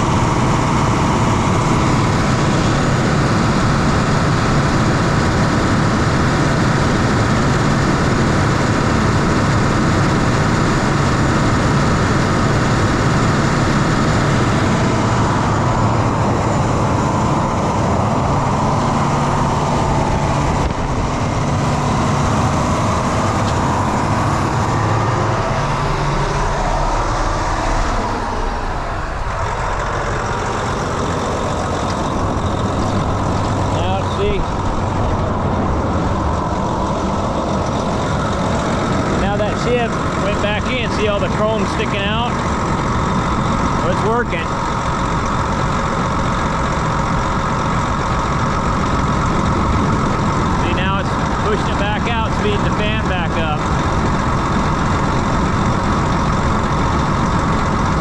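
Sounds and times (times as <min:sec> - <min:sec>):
diesel tractor idling: 0:00.0 - 0:58.0.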